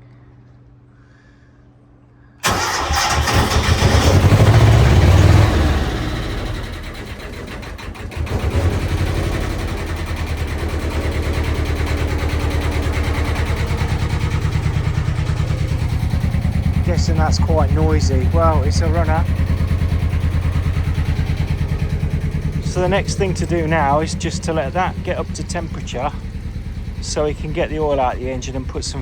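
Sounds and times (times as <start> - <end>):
diesel engine starting and idling: 2.4 - 29.0.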